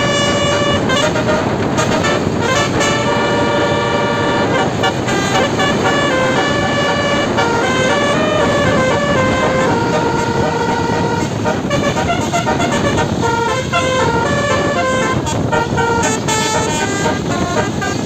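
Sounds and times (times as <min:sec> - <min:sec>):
musical bus horn melody: 0:00.0 - 0:18.0.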